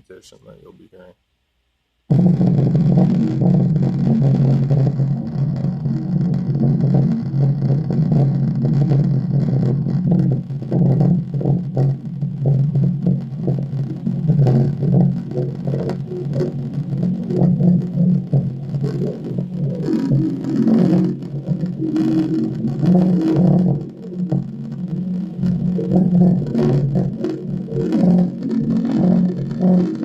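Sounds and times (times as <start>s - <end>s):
steady rumbling with crackling: 0.0s - 1.2s, 2.1s - 30.0s.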